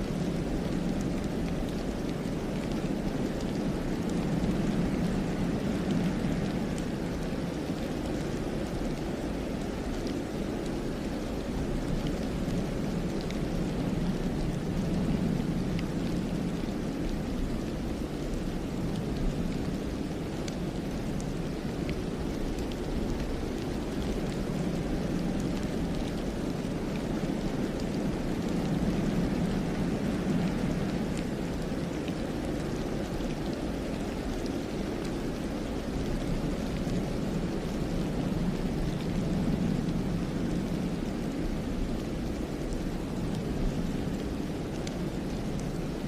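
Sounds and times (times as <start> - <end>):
wind rushing through pines: 0.0 - 46.0.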